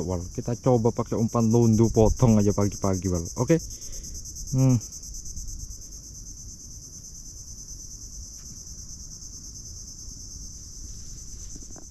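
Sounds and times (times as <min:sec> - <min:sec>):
insect chorus buzzing: 0:00.0 - 0:11.9.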